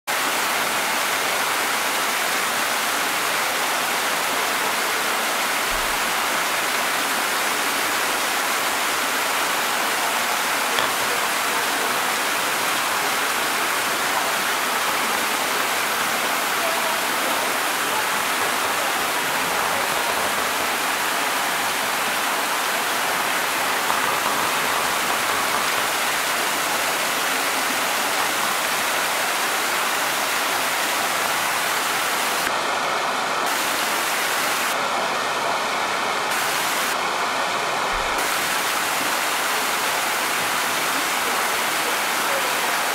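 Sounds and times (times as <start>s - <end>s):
waterfall splashing: 0.1s - 42.9s.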